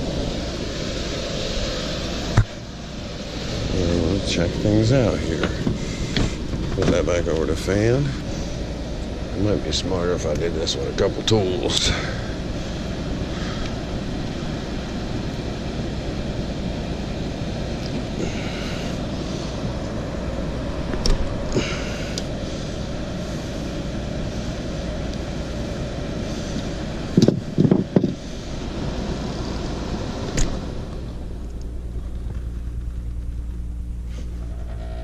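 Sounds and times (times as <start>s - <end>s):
hvac fan humming: 0.0s - 35.0s.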